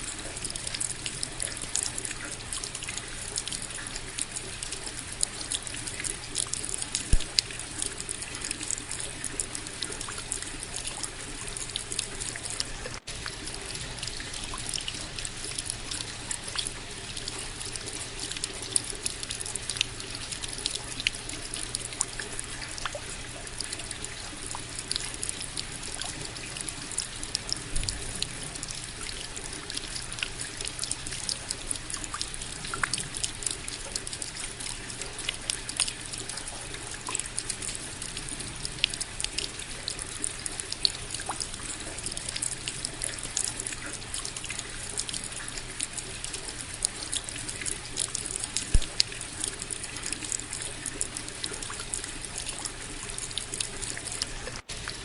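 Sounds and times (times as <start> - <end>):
raindrops ticking: 0.0 - 55.0
steady rainfall: 0.0 - 55.0.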